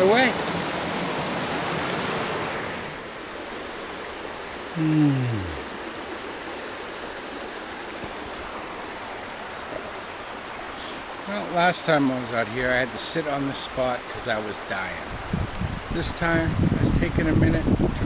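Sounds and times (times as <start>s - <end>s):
stream flowing over rocks: 0.0s - 18.0s.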